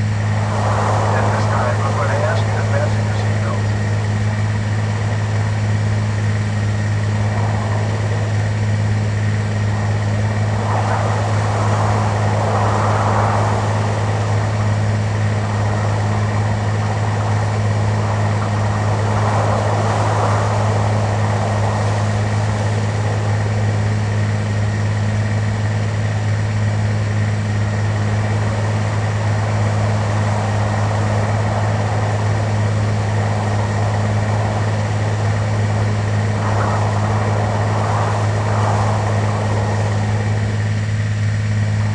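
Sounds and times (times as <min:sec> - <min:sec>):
airliner engines droning in cabin: 0:00.0 - 0:41.9
faint steady tones: 0:00.0 - 0:41.9.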